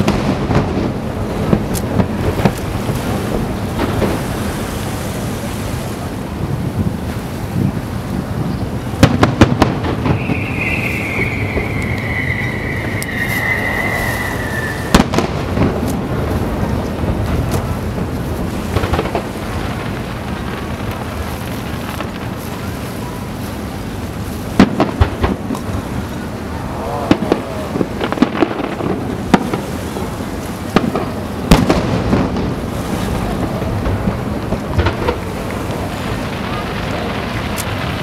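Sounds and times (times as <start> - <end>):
sharp firework bangs: 0.0 - 5.0, 8.9 - 22.7, 24.5 - 25.8, 27.0 - 38.0
rumble of firework booms: 0.0 - 38.0.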